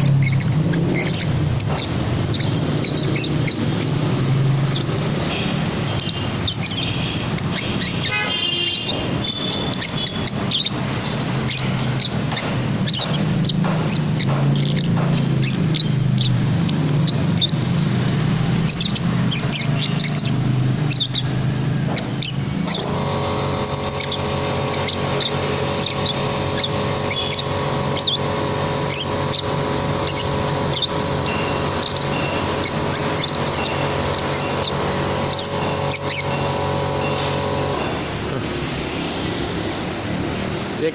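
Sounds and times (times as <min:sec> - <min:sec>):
baby lovebird chirping: 0:00.0 - 0:37.8.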